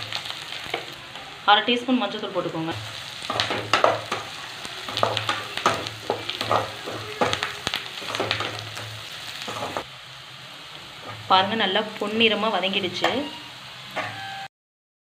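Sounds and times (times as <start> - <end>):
onions sizzling in oil: 0.0 - 14.5.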